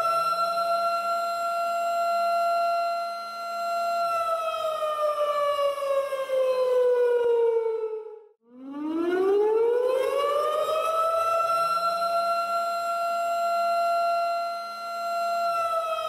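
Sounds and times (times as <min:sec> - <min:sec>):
tornado warning siren: 0:00.0 - 0:16.0.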